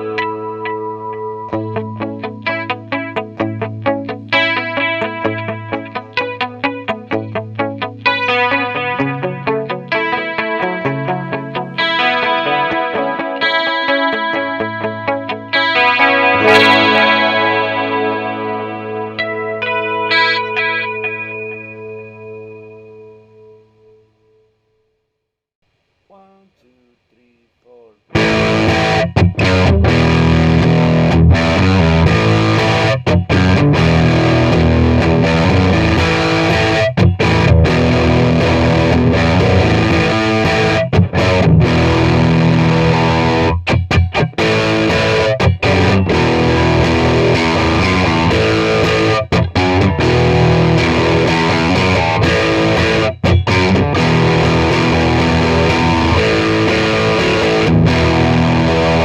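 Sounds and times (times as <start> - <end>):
distorted electric guitar riff: 0.0 - 24.2, 28.1 - 59.0.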